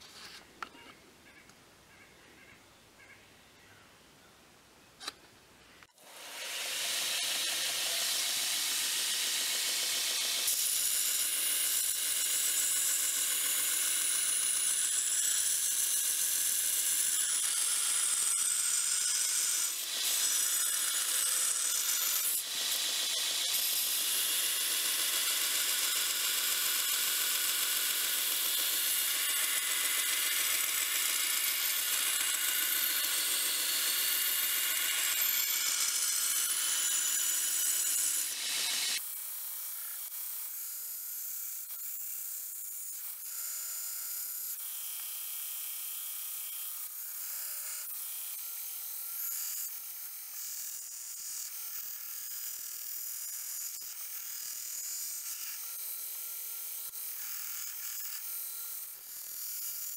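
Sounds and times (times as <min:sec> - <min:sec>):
belt grinder grinding steel: 0:05.8 - 0:59.9.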